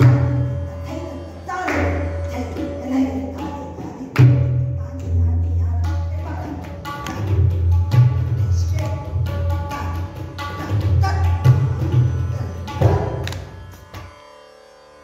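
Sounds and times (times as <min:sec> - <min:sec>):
tabla strokes: 0:00.0 - 0:14.2.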